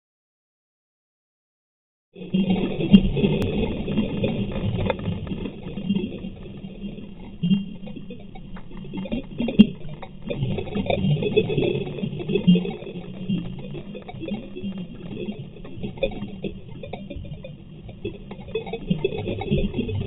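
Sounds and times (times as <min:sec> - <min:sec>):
underwater rushing and rumbling: 0:02.2 - 0:20.0.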